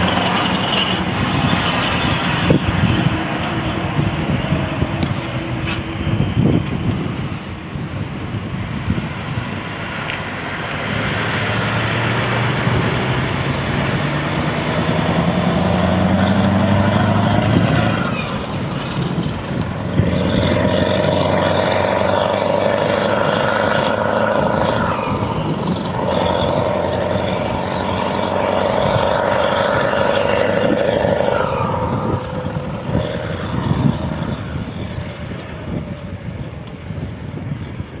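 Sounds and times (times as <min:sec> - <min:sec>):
diesel engine accelerating: 0:00.0 - 0:38.0.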